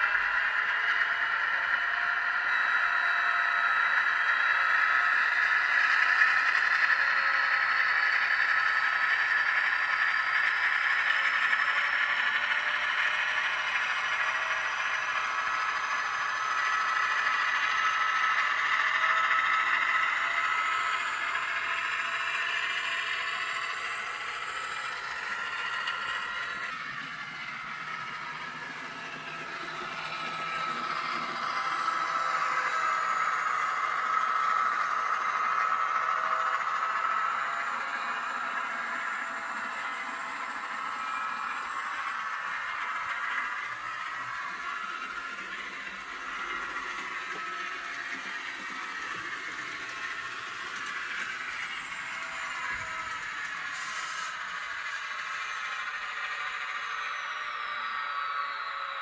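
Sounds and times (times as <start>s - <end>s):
model locomotive diesel engine sound: 0.0s - 59.0s
rising whine: 0.0s - 59.0s.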